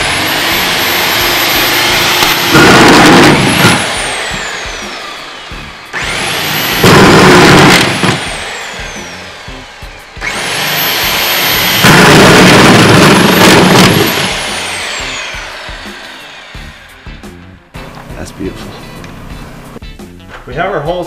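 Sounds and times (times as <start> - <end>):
drill motor whining: 0.0 - 19.8.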